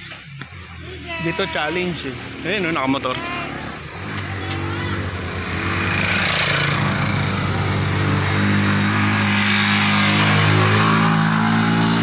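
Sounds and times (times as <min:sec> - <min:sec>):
small motorcycle engine under load: 0:01.0 - 0:12.0.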